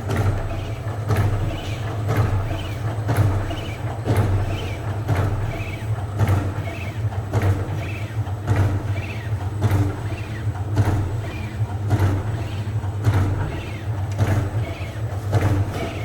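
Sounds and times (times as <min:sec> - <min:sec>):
machine clacking: 0:00.0 - 0:16.0
machine motor hum: 0:00.0 - 0:16.0.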